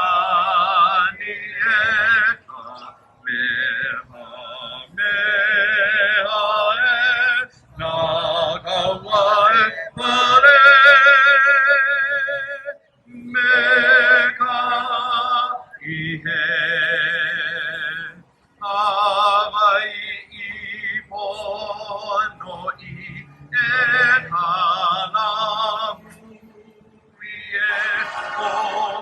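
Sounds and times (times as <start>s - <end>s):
person singing with vibrato: 0.0s - 29.0s.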